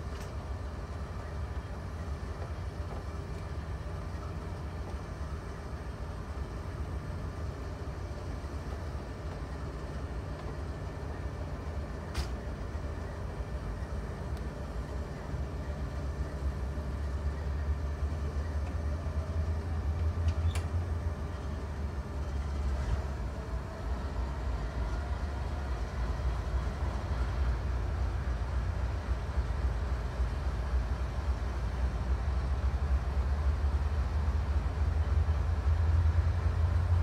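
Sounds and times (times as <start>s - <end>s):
diesel locomotive idling: 0.0s - 37.0s.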